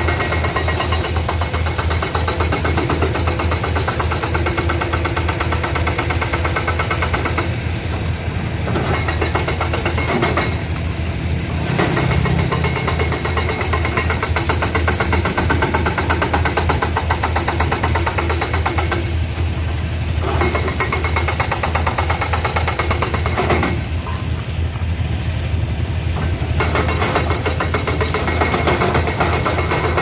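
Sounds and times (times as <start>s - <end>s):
excavator engine humming: 0.0s - 30.0s.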